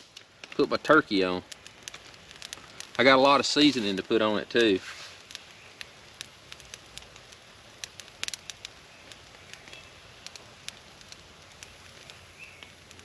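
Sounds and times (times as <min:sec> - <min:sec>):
campfire crackling and popping: 0:00.0 - 0:13.0
wet wood sizzling: 0:00.0 - 0:13.0.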